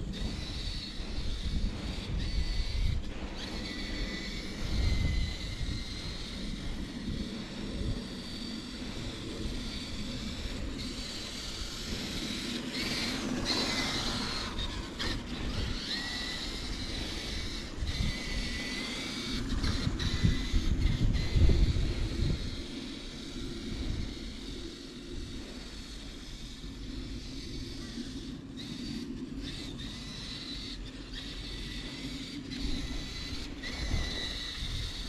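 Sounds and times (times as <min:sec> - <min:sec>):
electric motor whine: 0:00.0 - 0:35.0.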